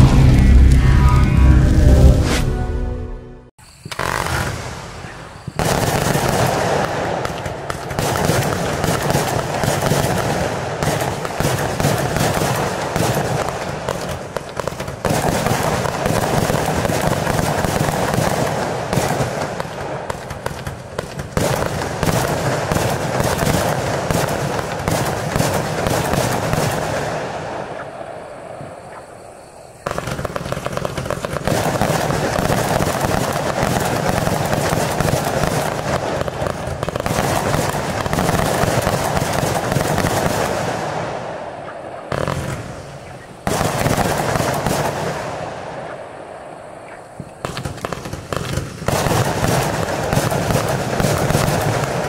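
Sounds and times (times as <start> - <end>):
fireworks launching and bursting: 3.6 - 46.0, 47.2 - 52.0.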